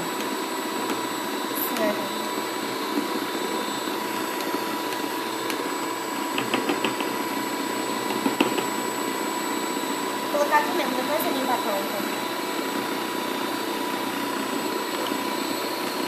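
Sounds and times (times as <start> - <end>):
electric kitchen mixer running: 0.0 - 16.0.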